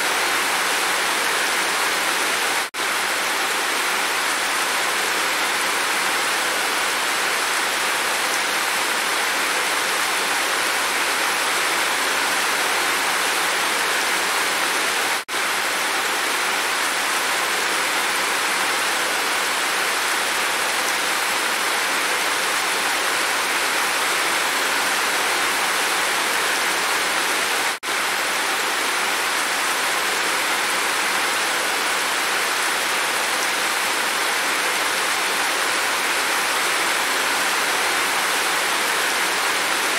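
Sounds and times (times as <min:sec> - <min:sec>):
heavy rain running off roof: 0:00.0 - 0:39.9.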